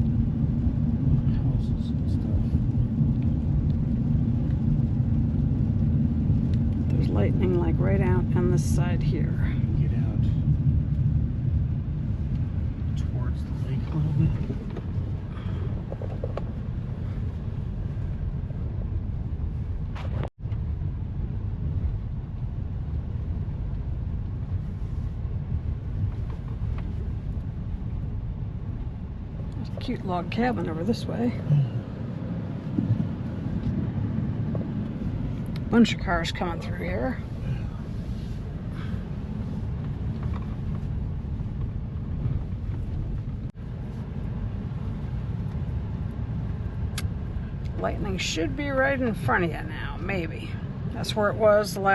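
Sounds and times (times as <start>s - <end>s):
car interior road and engine noise: 0.0s - 51.9s.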